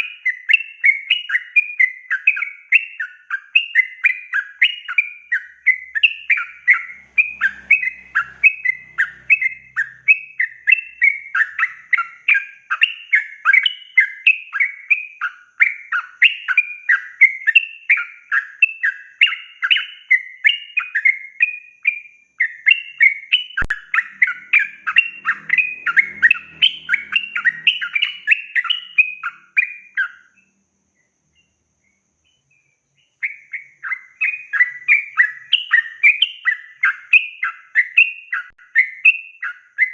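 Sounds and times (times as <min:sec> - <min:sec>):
bulbul singing chirping phrases: 0:00.0 - 0:39.9.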